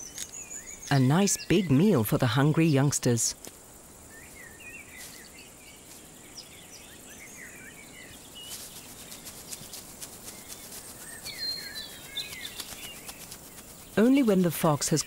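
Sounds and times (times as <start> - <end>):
songbirds chirping: 0.0 - 15.0
steady outdoor hiss: 0.0 - 15.0.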